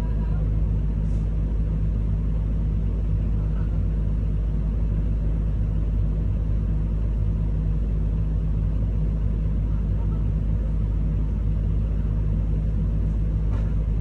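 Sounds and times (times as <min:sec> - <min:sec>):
excavator diesel engine rumble: 0:00.0 - 0:14.0.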